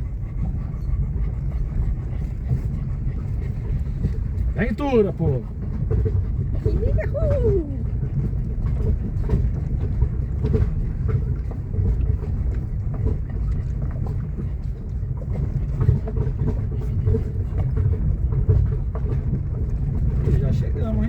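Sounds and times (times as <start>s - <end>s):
car driving on rocky track: 0.0s - 21.0s.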